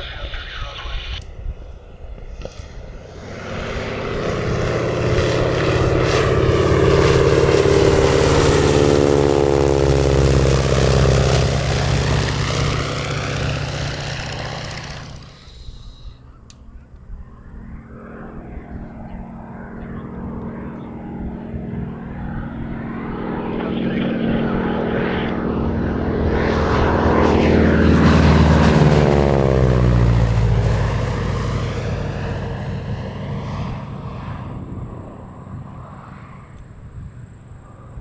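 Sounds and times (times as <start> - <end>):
propeller plane flyby: 0.0 - 38.0.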